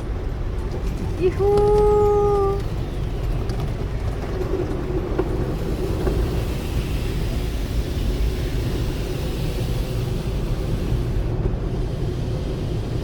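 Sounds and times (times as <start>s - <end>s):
car wash machinery and water rumble: 0.0s - 13.0s.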